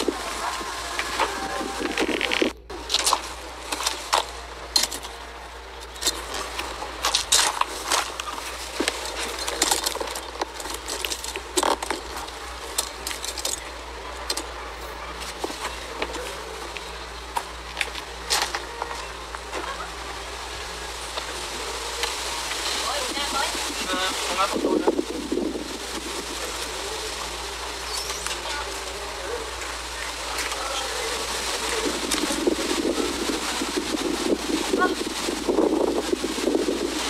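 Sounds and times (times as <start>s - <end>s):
sharp clicks and rustles: 0.0s - 37.0s
steady hiss: 0.0s - 37.0s.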